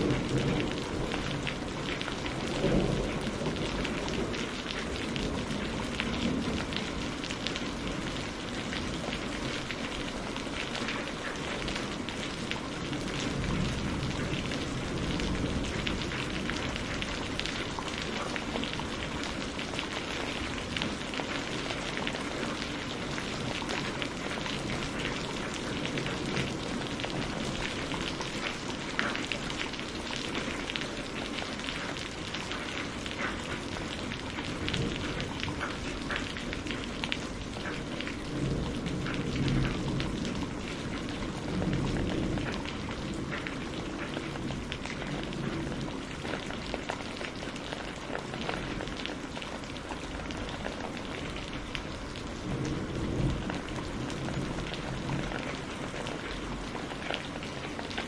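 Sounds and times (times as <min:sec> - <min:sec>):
rain on a hard surface: 0:00.0 - 0:58.0.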